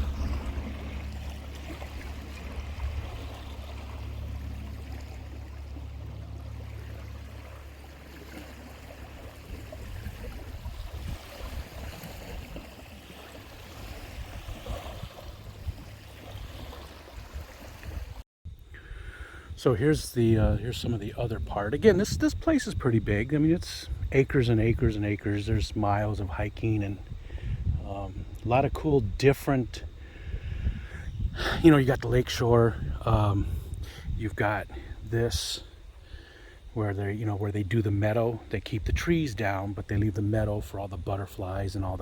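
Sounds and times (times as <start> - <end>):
wind buffeting microphone: 0.0 - 36.8, 37.4 - 42.0.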